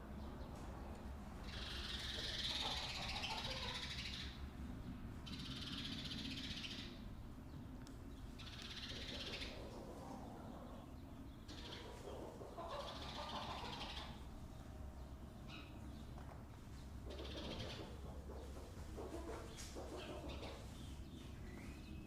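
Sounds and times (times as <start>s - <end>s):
chickens calling: 0.2s - 7.3s, 8.1s - 22.0s.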